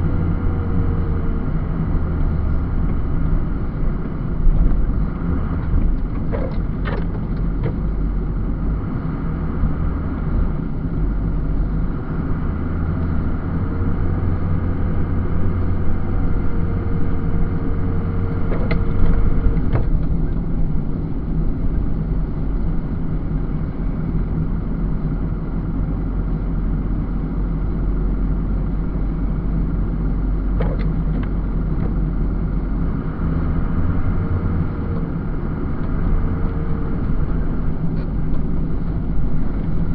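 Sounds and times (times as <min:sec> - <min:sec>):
snowplow truck rumbling: 0:00.0 - 0:39.9.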